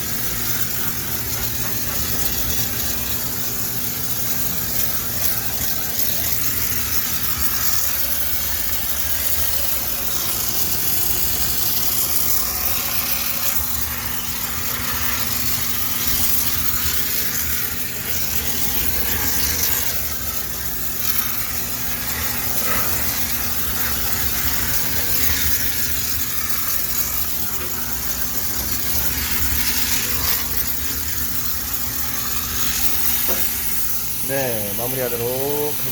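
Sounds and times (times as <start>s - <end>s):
hiss of steam: 0.0s - 35.9s
steam cleaner machine hum: 0.0s - 35.9s.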